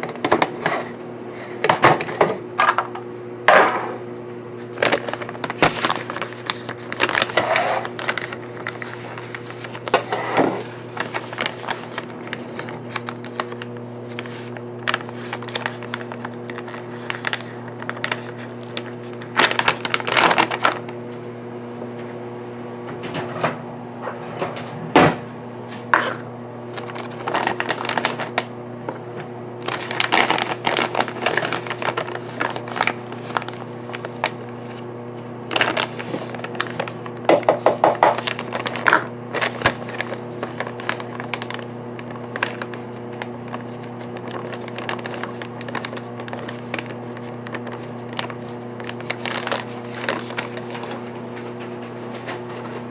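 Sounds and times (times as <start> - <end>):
low electrical hum: 0.0 - 52.9
paper bag crinkling: 4.6 - 21.1, 25.8 - 28.6, 29.6 - 52.8.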